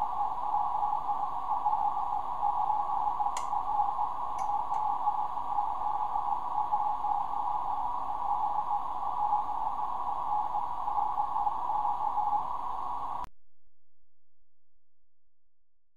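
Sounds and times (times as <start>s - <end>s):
faint wavering morse tone: 0.0s - 13.3s
receiver hiss: 0.0s - 13.3s.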